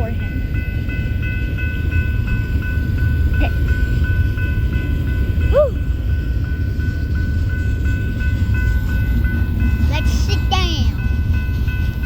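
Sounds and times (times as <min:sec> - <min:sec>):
pulsing high ringing: 0:00.0 - 0:12.0
train rumbling past: 0:00.0 - 0:12.0.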